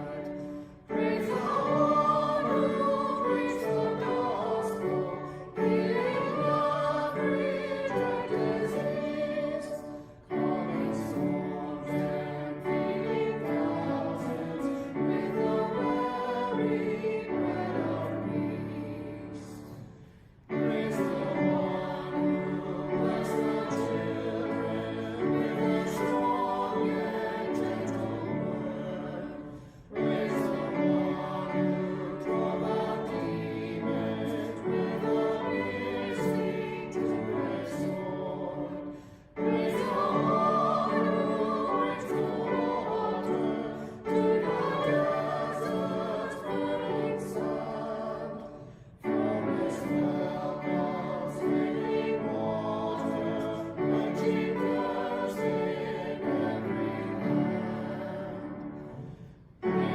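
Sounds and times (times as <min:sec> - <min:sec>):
choir singing sacred music: 0:00.0 - 0:59.9.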